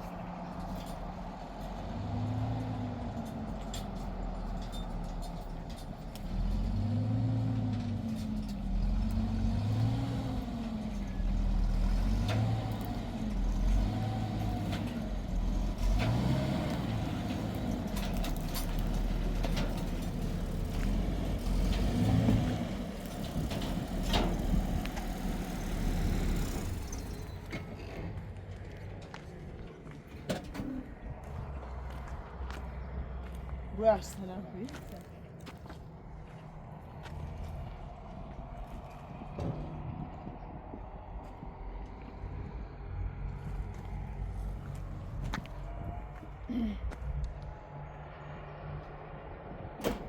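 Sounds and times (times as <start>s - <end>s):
engine humming with rising pitch: 0.0s - 50.0s.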